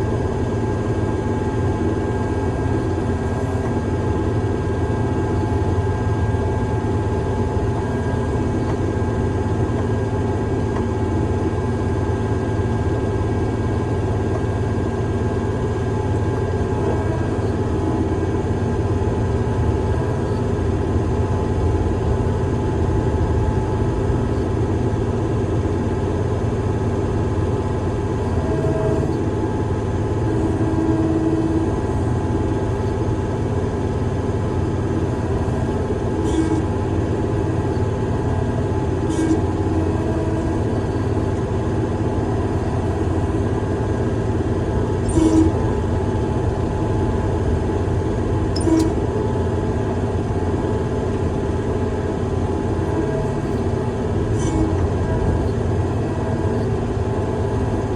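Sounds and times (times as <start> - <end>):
faint steady whine: 0.0 - 57.9
heavy equipment engine drone: 0.0 - 57.9.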